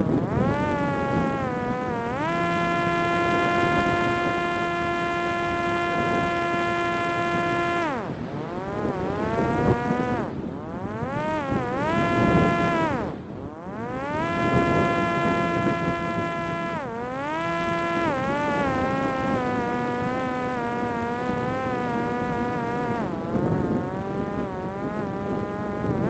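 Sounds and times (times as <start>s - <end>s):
electric propeller motor whining: 0.0s - 26.0s
wind noise: 0.0s - 26.0s.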